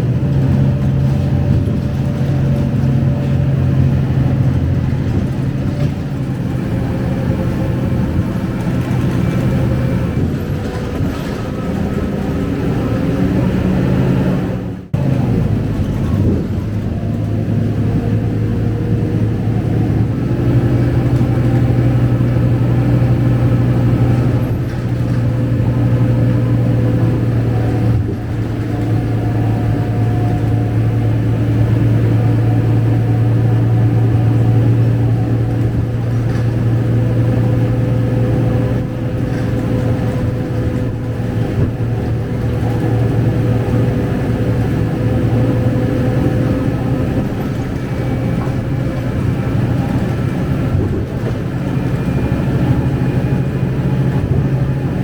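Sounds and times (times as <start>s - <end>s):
bus diesel engine droning: 0.0s - 55.0s
rumble of bus ride: 0.0s - 55.0s.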